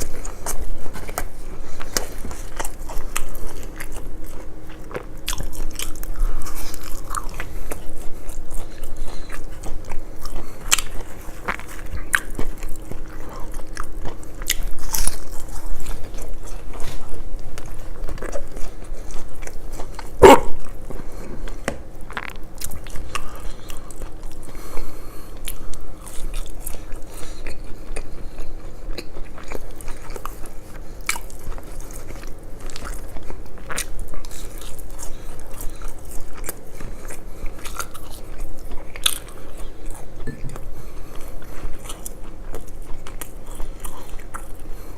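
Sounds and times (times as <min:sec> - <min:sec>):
wet chewing: 0:00.0 - 0:44.9.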